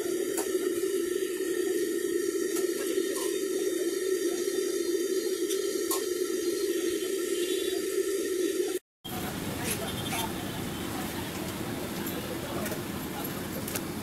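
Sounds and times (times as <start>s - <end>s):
oil sizzling and bubbling: 0.0s - 14.0s.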